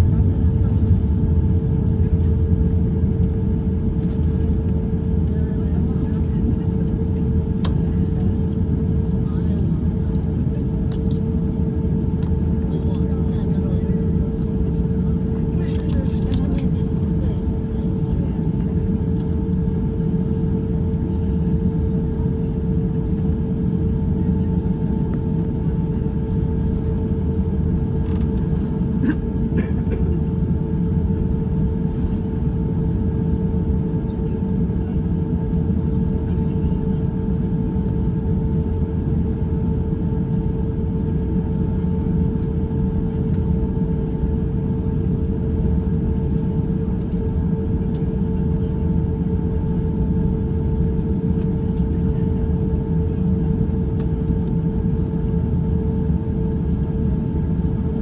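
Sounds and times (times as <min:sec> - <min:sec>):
aircraft cabin low rumble: 0:00.0 - 0:58.0
constant hum: 0:00.0 - 0:58.0.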